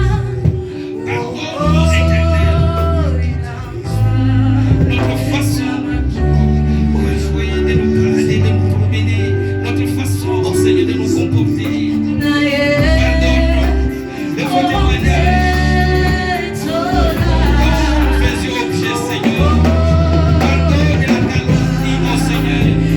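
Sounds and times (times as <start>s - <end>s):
low bass notes and instruments: 0.0s - 22.9s
person singing worship music: 0.0s - 22.9s.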